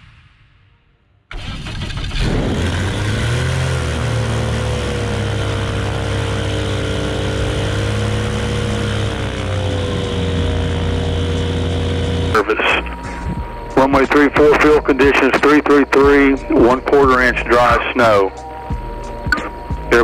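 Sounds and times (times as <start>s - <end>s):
propeller aircraft engine running: 1.3s - 20.0s.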